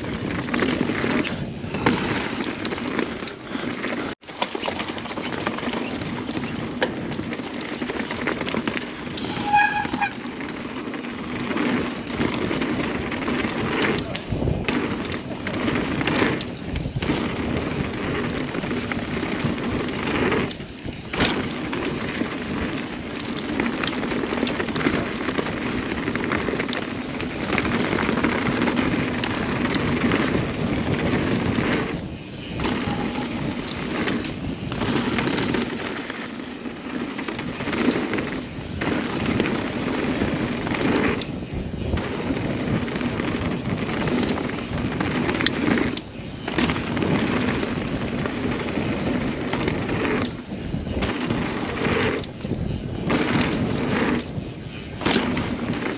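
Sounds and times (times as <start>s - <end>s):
bike rattling and clicking: 0.0s - 55.9s
bike tyres crunching over dirt: 0.0s - 55.9s.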